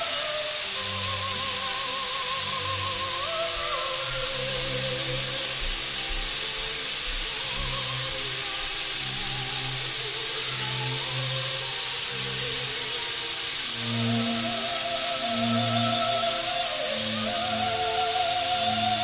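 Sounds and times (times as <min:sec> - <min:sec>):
steam hissing from pressure cooker: 0:00.0 - 0:19.0.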